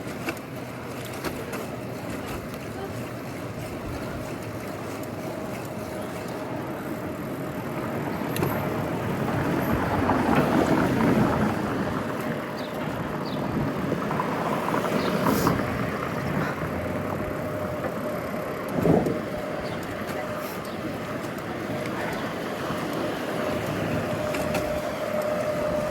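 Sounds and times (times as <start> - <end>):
cars passing on street: 0.0 - 25.9.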